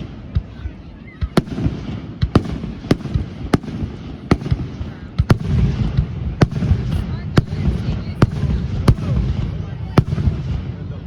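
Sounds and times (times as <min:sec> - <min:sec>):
fireworks bangs: 0:01.2 - 0:11.0.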